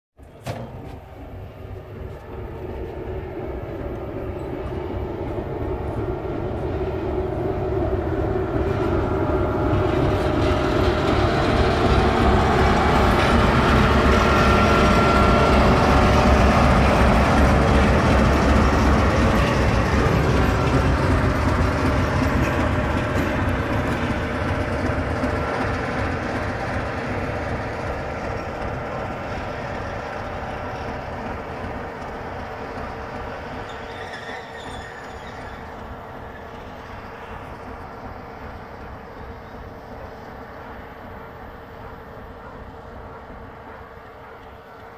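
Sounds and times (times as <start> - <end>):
diesel locomotive passing: 0.3 - 44.9.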